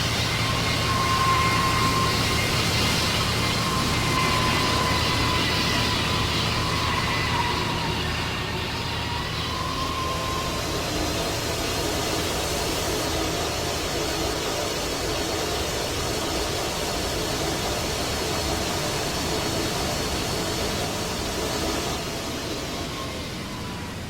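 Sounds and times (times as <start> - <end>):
faint whine: 0.0 - 24.0
jet engines roaring: 0.0 - 24.0.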